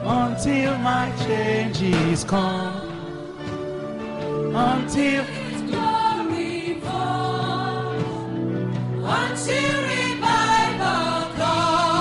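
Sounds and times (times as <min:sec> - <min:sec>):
group singing gospel: 0:00.0 - 0:12.0.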